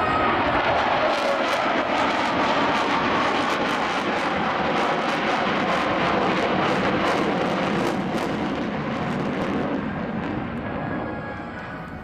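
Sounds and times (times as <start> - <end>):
jet aircraft engine noise: 0.0 - 12.0.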